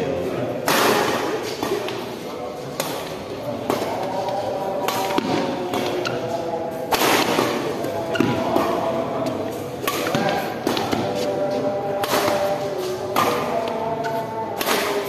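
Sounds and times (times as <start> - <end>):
voices in background: 0.0 - 15.0
rackets hitting shuttlecock: 0.6 - 15.0.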